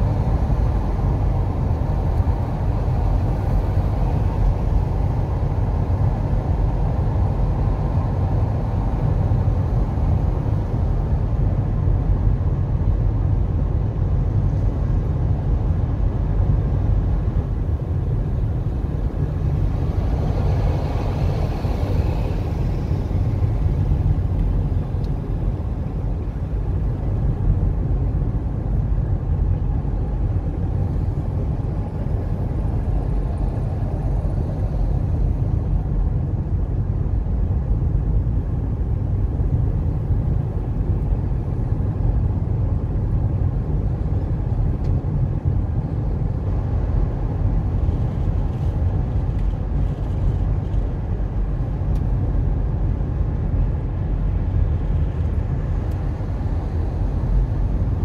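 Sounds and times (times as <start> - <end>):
car cabin tyre and engine rumble: 0.0 - 58.0.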